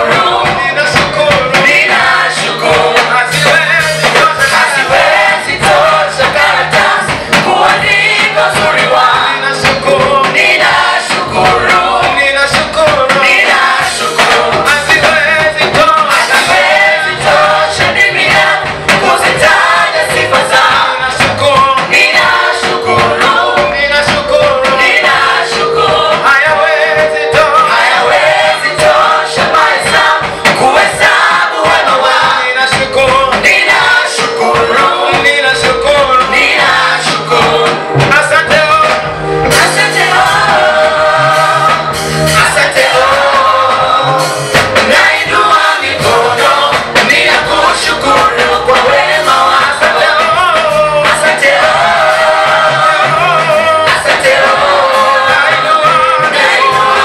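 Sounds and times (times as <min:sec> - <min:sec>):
group singing gospel: 0:00.0 - 0:57.0
instrumental accompaniment with bass: 0:00.0 - 0:57.0.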